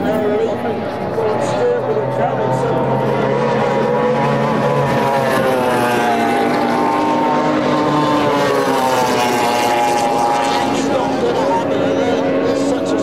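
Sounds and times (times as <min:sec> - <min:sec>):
outboard engine droning: 0:00.0 - 0:13.0.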